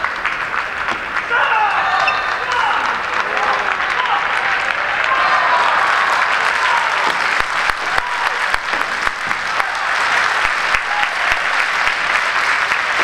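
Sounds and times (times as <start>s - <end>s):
crowd applause: 0.0s - 13.0s.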